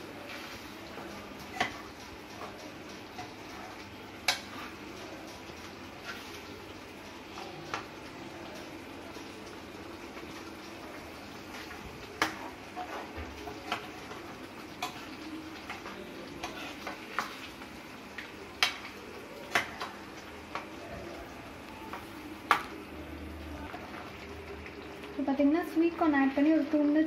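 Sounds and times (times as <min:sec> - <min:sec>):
low sizzle of cooking: 0:00.0 - 0:27.0.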